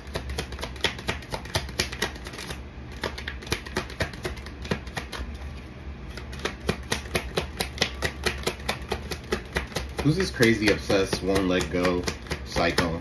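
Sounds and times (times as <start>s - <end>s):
cards being shuffled: 0.0s - 13.0s
low steady hum: 0.0s - 13.0s.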